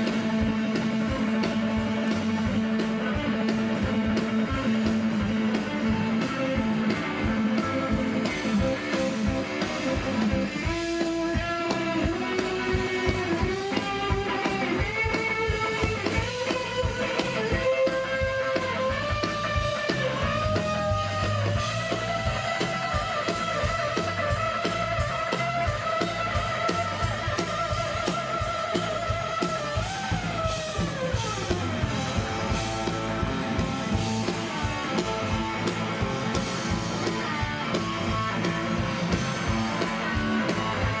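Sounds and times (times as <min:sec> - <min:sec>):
blues band playing: 0:00.0 - 0:41.0
electric guitar lead: 0:00.0 - 0:41.0
steady drum beat: 0:00.0 - 0:41.0.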